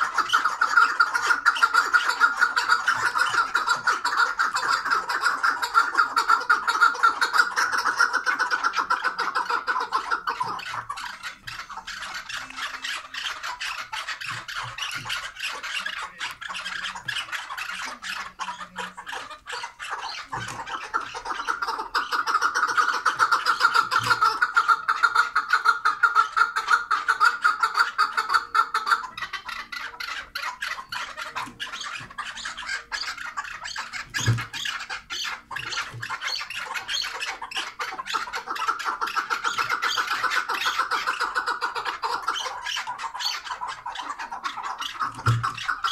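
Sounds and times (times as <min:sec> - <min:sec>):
partridges clucking: 0:00.0 - 0:45.9.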